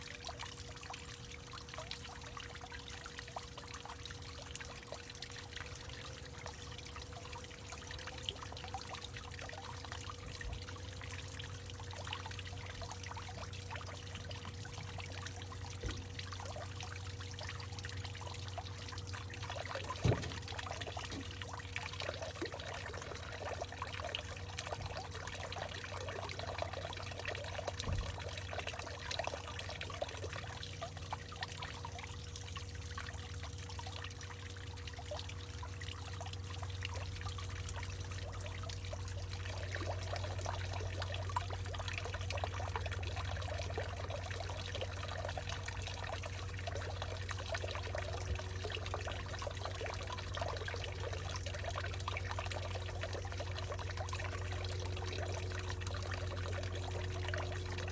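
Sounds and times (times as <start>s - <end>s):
water trickling and dripping: 0.0s - 57.9s.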